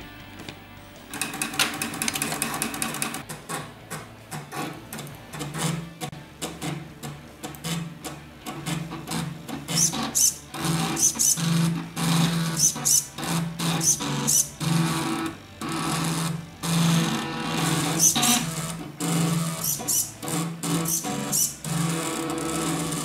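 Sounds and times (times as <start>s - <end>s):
stepper motors buzzing: 4.5s - 23.0s.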